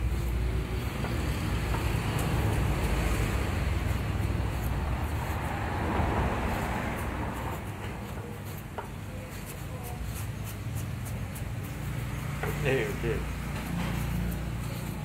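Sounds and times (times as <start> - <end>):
traffic rumble: 0.0 - 15.0
vehicle passing: 0.0 - 15.0.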